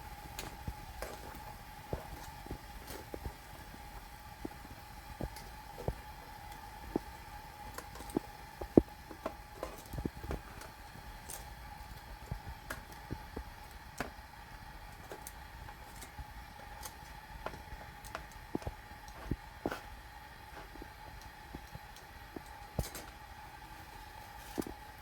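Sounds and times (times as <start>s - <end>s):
faint steady hum: 0.0s - 25.0s
light clicks and crackles: 0.0s - 25.0s.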